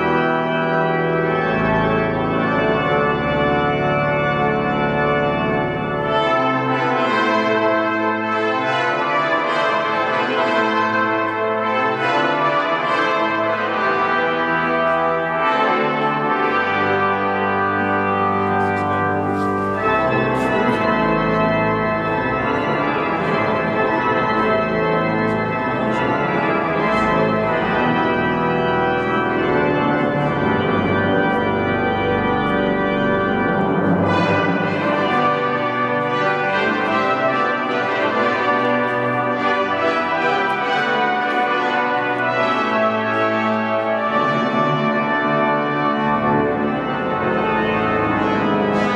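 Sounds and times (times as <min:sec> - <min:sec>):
deep bass organ pedal notes: 0:00.0 - 0:48.9
pipe organ chords: 0:00.0 - 0:48.9.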